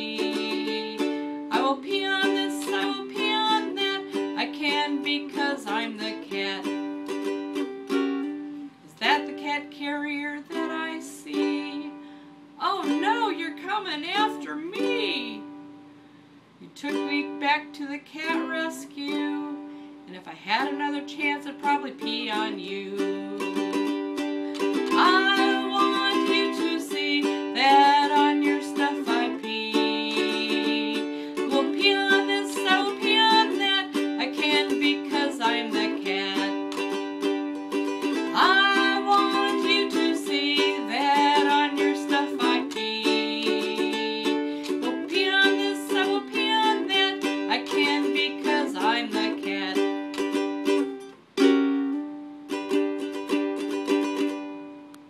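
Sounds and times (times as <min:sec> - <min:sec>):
ukulele strummed and picked: 0:00.0 - 0:15.8, 0:16.6 - 0:55.0.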